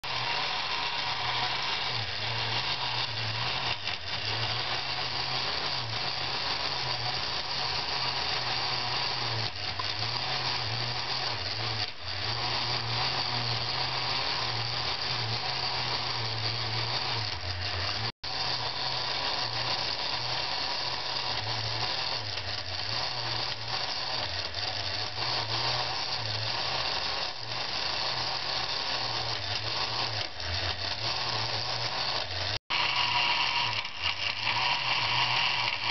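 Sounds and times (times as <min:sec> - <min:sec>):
electric motor whirring: 0:00.0 - 0:35.9.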